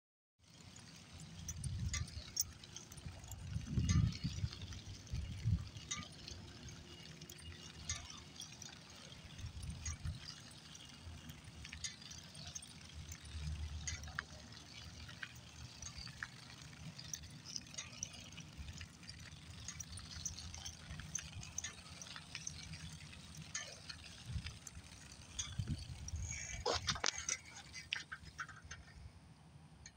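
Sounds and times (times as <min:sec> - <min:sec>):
bicycle rolling on pavement: 0:00.4 - 0:29.9
light ticks and clicks: 0:00.5 - 0:29.1
wind rumble on microphone: 0:01.3 - 0:28.0.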